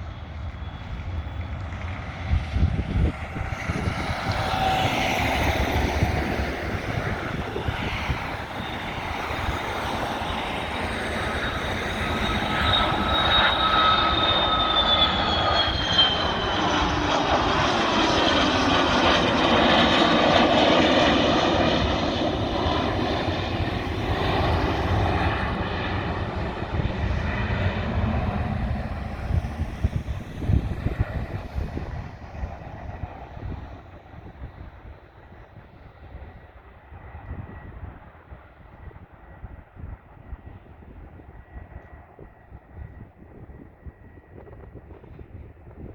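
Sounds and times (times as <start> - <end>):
high engine whine: 0.0 - 38.3
jet engines at takeoff: 0.0 - 45.9.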